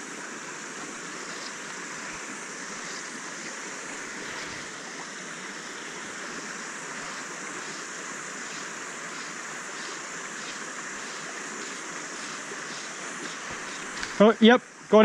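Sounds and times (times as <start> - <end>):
stream flowing over gravel: 0.0 - 15.0.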